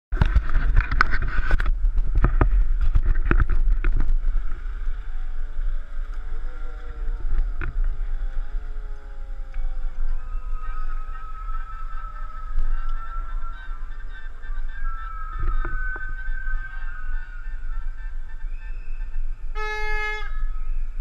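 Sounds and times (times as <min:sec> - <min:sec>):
wind rumbling on microphone: 0:00.1 - 0:21.0
faint gliding tones: 0:00.8 - 0:21.0.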